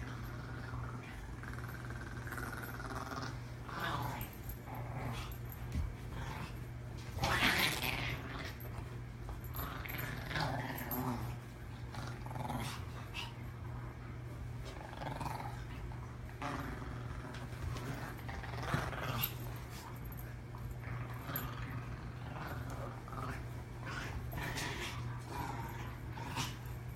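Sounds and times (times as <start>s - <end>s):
dogs growling in play: 0.0s - 26.9s.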